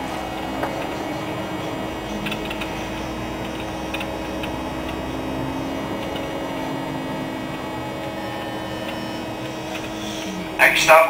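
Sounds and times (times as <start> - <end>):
bus engine hum and rumble: 0.0 - 11.0
constant tone: 0.0 - 11.0.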